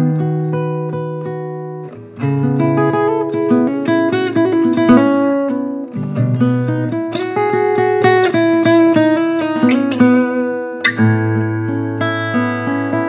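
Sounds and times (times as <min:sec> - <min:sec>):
acoustic guitar strumming and picking: 0:00.0 - 0:13.0.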